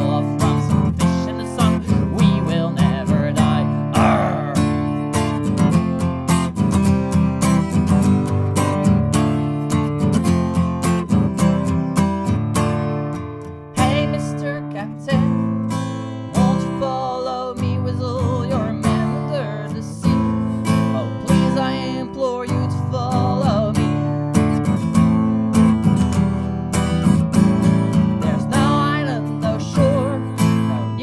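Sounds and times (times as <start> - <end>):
strummed acoustic guitar: 0.0 - 31.0.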